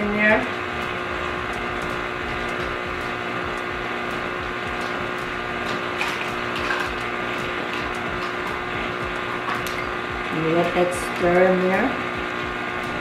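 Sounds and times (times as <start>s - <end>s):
electric stand mixer running: 0.0s - 13.0s.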